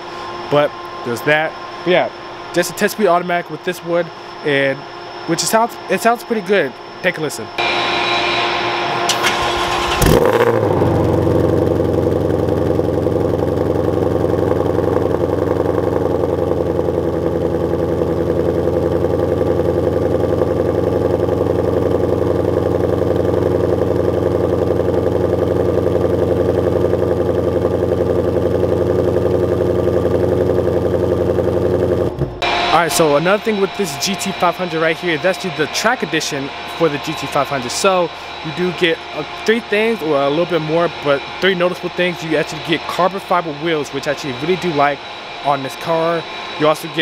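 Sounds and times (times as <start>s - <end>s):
car engine starting and idling: 7.6s - 47.0s.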